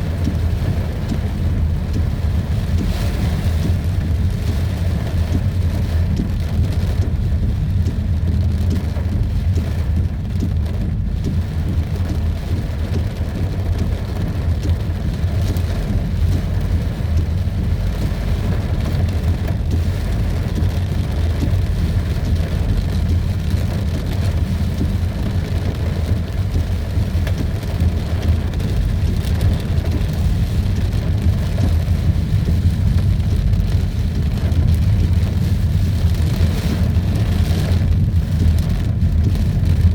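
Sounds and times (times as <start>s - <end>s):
deep low rumble: 0.0s - 39.9s
heavy rain pouring: 0.0s - 39.9s.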